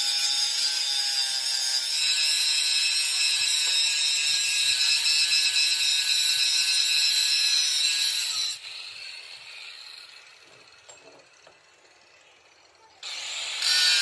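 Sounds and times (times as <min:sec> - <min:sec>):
power tool cutting metal: 0:00.0 - 0:11.0, 0:13.0 - 0:14.0.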